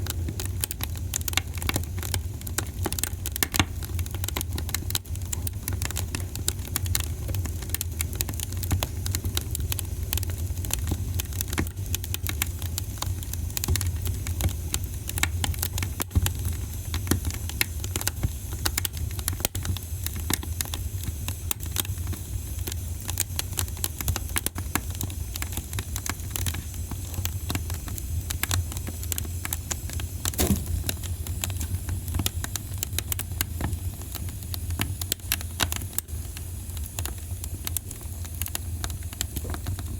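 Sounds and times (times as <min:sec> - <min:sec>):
fire popping and crackling: 0:00.0 - 0:39.9
low rumble of flames: 0:00.0 - 0:39.9.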